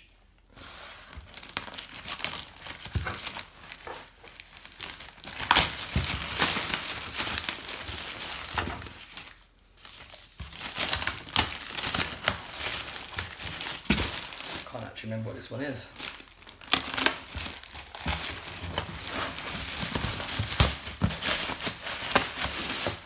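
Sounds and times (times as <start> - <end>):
plastic bag crinkling: 0.6 - 23.0.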